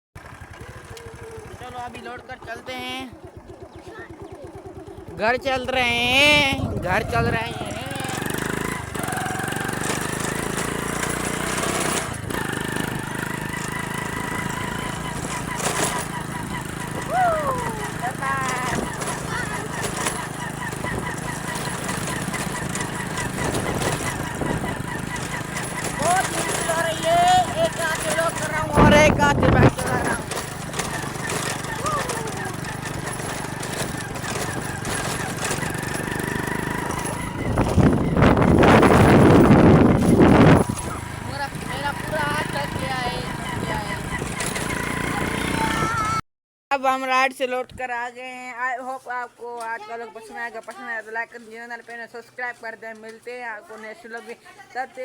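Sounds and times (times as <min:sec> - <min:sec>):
motorcycle engine running: 0:00.2 - 0:46.2.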